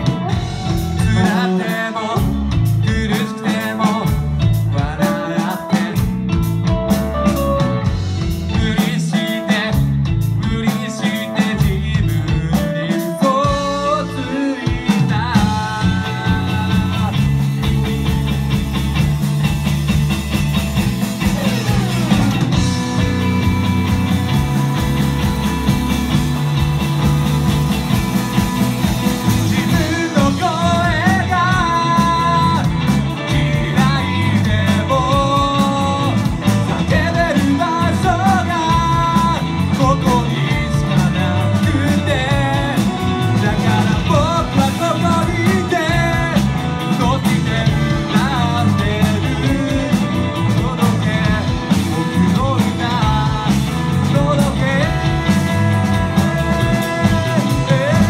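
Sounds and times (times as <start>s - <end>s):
wavering lead melody: 0.0s - 10.6s, 11.6s - 58.0s
rock band playing: 0.0s - 58.0s.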